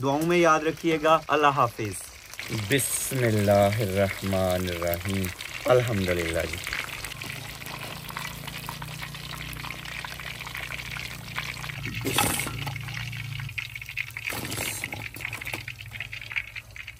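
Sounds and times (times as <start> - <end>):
hot oil sizzling: 0.0 - 16.9
oil running off a spoon: 0.2 - 16.9.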